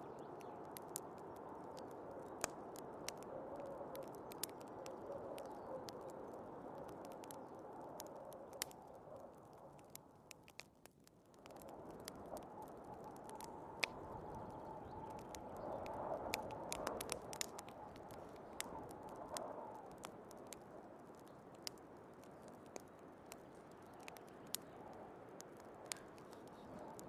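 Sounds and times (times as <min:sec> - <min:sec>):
wood fire crackling: 0:00.0 - 0:27.0
fire pops: 0:00.1 - 0:27.0.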